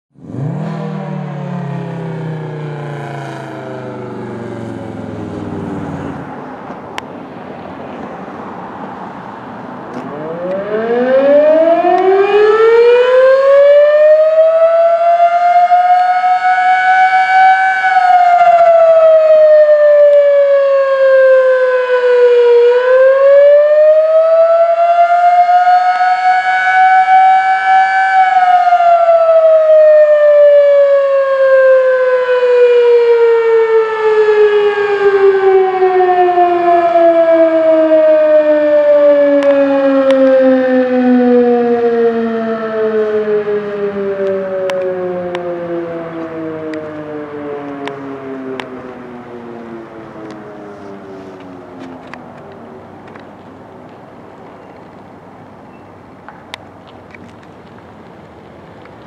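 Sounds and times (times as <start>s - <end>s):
warning siren wailing: 0.2s - 53.2s.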